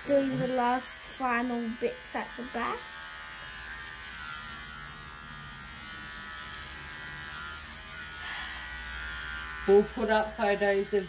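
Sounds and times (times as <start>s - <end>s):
hair clippers buzzing: 0.0s - 11.0s.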